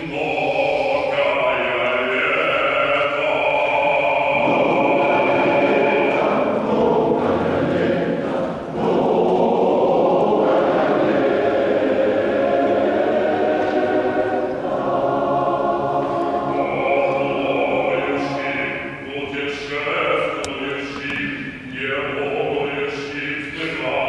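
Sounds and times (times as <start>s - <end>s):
male choir singing in harmony: 0.0s - 24.0s.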